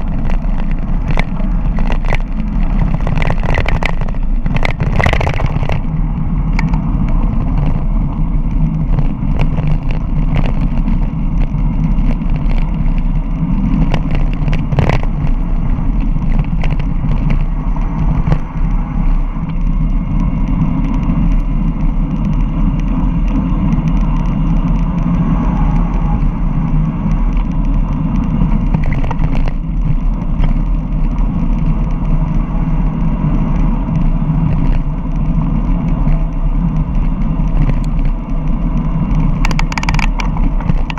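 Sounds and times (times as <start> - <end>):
bike rattling over rough ground: 0.0 - 40.9
wind rumble on microphone: 0.0 - 40.9.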